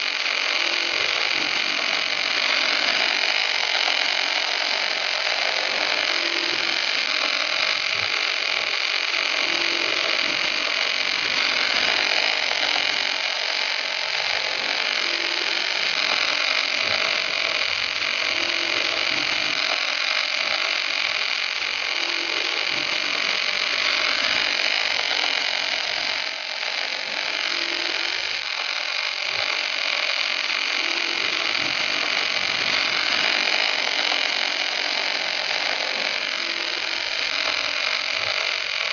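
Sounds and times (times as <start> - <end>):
welding arc hissing: 0.0 - 38.9.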